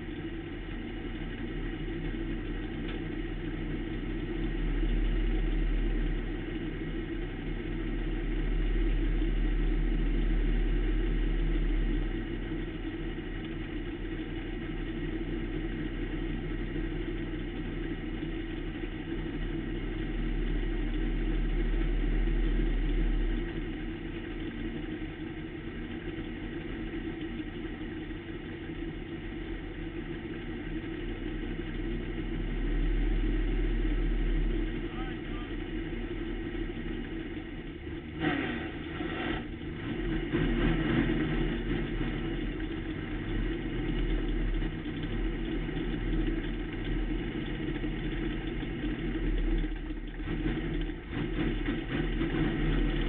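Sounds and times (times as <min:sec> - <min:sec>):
race car engine rumbling: 0:00.0 - 0:53.0.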